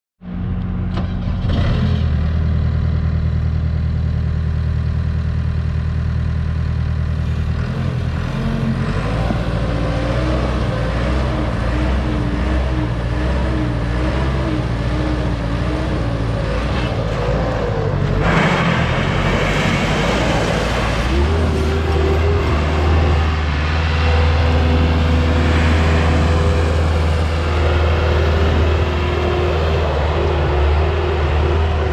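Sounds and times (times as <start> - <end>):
diesel engine running: 0.2 - 31.9.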